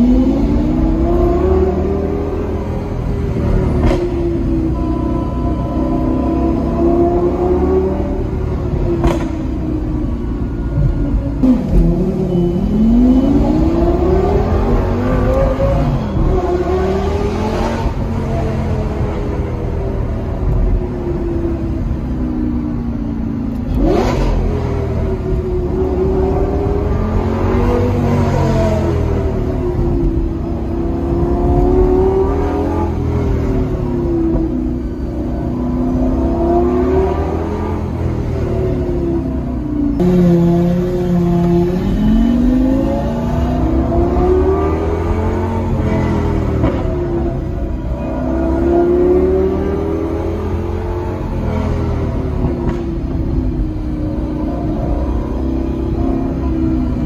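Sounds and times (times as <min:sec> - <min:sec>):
car engine accelerating through gears: 0:00.0 - 0:57.0
low road rumble: 0:00.0 - 0:57.0.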